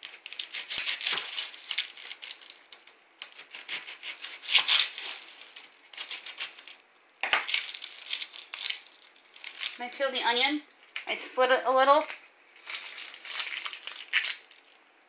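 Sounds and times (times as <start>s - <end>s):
onion skin crackling: 0.0s - 14.8s.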